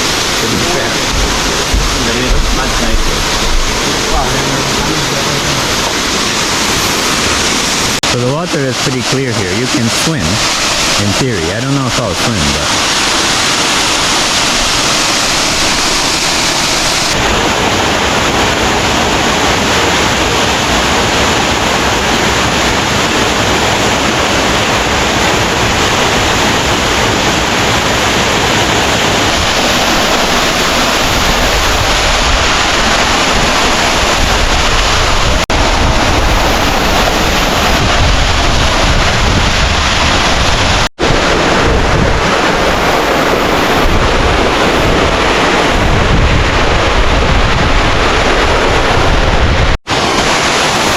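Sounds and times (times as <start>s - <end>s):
wind rumble on microphone: 0.0s - 8.0s, 16.9s - 50.9s
waterfall roaring: 0.0s - 50.9s.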